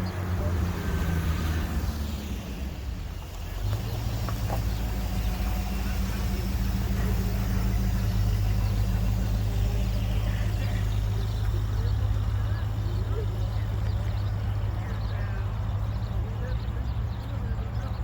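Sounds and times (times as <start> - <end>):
car engine low drone: 0.0 - 18.0.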